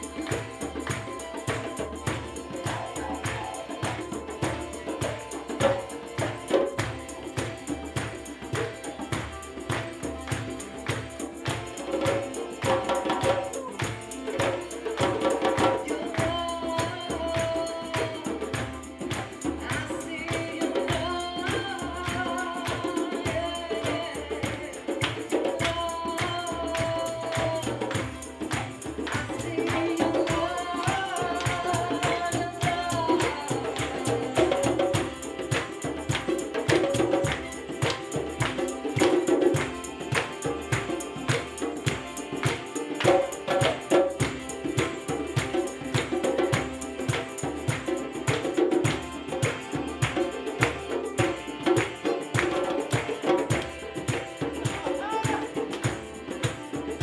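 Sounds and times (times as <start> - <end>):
hand drums: 0.0 - 57.0
tambourine: 0.0 - 57.0
violin melody: 0.0 - 57.0.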